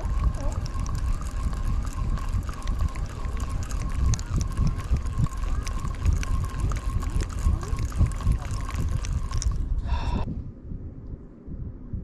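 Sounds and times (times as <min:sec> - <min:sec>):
small clicks: 0:00.0 - 0:09.6
faint steady whine: 0:00.0 - 0:12.0
wind buffeting microphone: 0:00.0 - 0:12.0.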